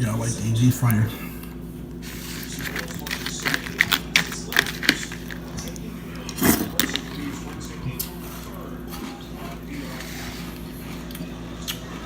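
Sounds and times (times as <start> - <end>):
chewing crunchy cereal: 1.9 - 12.0.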